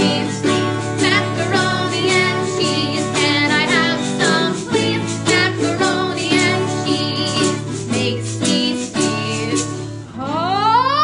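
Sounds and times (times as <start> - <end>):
small plucked string instrument: 0.0 - 10.2
strummed acoustic guitar: 0.0 - 10.4
woman singing: 0.0 - 11.0.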